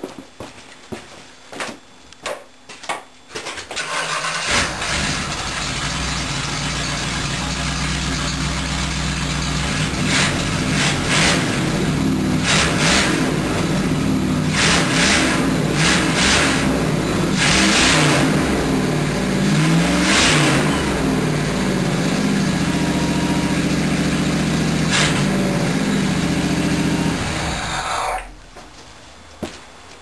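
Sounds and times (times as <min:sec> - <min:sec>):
model car engine starting and revving: 0:03.8 - 0:28.3.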